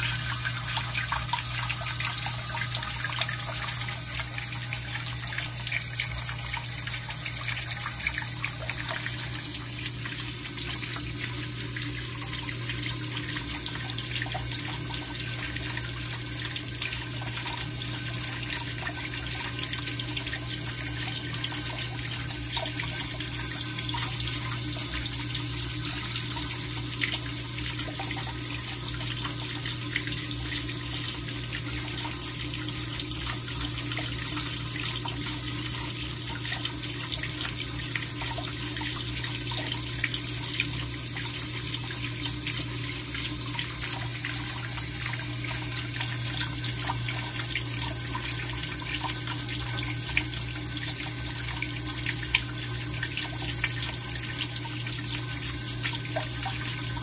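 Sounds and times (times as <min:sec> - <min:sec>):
low steady hum: 0:00.0 - 0:57.0
running water: 0:00.0 - 0:57.0.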